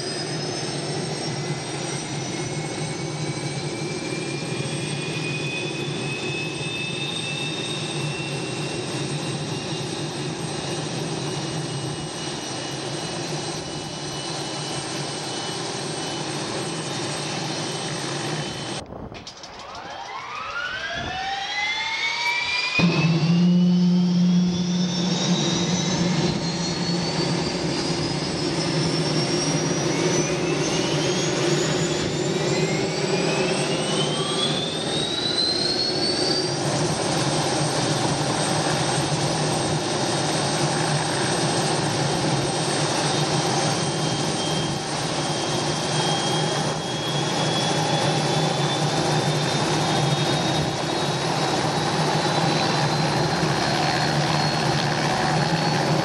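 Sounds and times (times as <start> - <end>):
turbine engine whine: 0.0 - 56.0.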